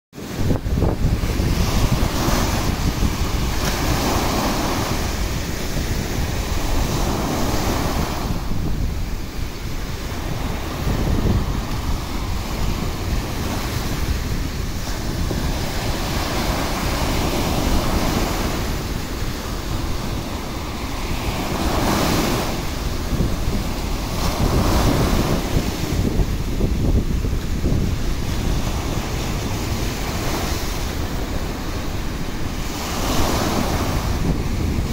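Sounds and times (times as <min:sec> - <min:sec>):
small surf washing on sand: 0:00.2 - 0:34.9
wind buffeting microphone: 0:00.2 - 0:34.9.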